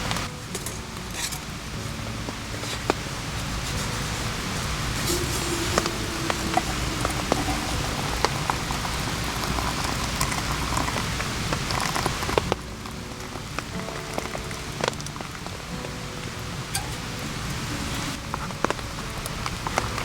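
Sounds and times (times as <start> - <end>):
raindrops ticking close by: 0.0 - 20.0
steady rainfall: 0.0 - 20.0.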